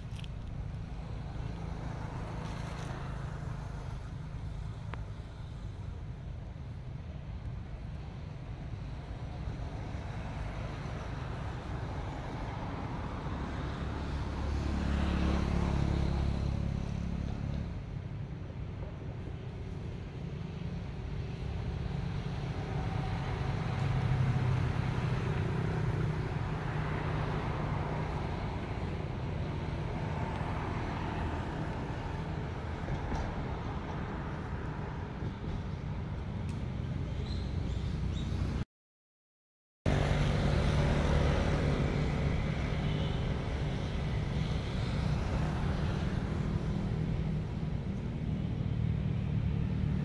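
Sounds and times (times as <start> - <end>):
vehicles passing: 0.0 - 38.6, 39.9 - 50.0.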